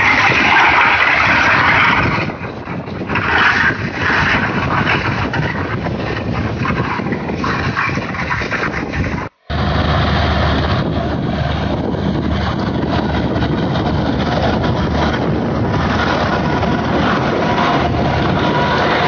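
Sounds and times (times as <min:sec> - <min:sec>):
flail mulcher shredding stalks: 0:00.0 - 0:19.0
tractor diesel engine under load: 0:00.0 - 0:19.0.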